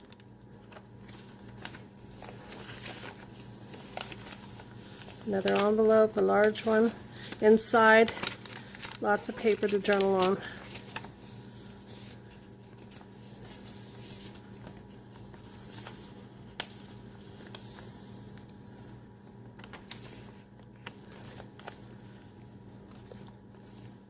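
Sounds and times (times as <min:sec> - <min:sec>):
paper rustling: 0:00.0 - 0:24.0.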